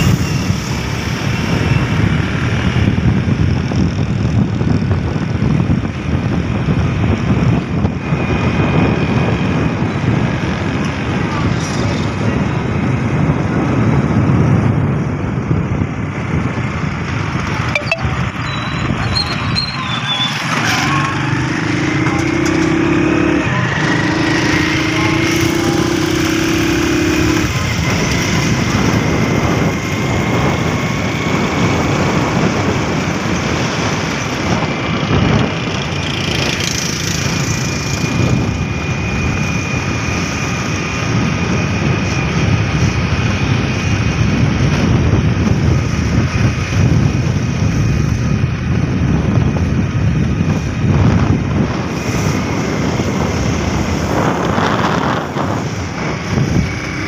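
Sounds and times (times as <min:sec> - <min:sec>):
wind rush: 0:00.0 - 0:57.0
vehicle engine running: 0:09.2 - 0:57.0.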